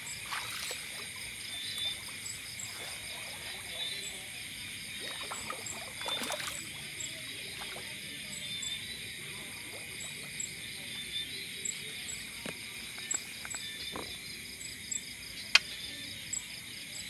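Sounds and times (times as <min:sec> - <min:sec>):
water splashing: 0:00.0 - 0:14.3
insects trilling: 0:00.0 - 0:17.0.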